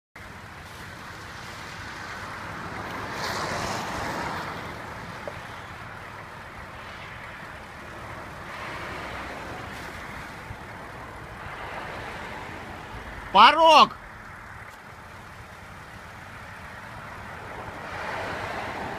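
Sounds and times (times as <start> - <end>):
car engine running: 0.2 - 18.9.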